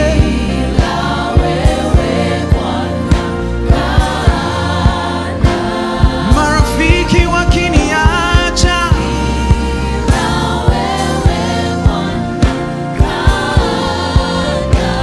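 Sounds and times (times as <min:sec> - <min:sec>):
people singing: 0:00.0 - 0:15.0
steady drum beat: 0:00.0 - 0:15.0
worship band playing: 0:00.0 - 0:15.0.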